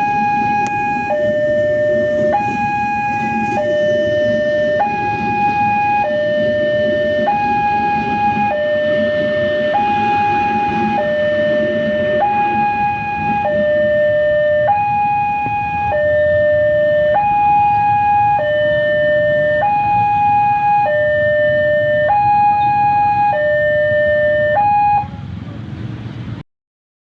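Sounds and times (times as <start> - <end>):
two-tone level-crossing siren: 0.0 - 25.4.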